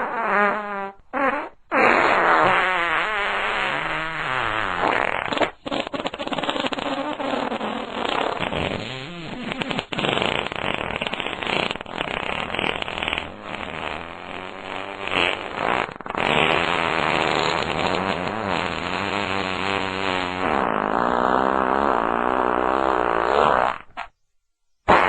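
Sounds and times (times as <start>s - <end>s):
long fart sounds: 0.0s - 24.2s.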